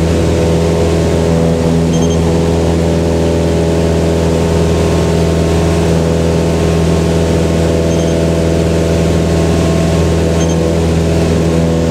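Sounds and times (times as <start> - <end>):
light aircraft engine drone: 0.0 - 11.9.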